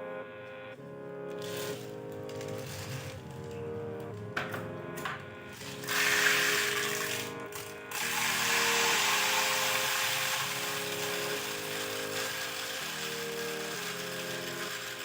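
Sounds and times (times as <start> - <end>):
background music: 0.0 - 15.0
tool working on plastic bottle: 1.3 - 15.0.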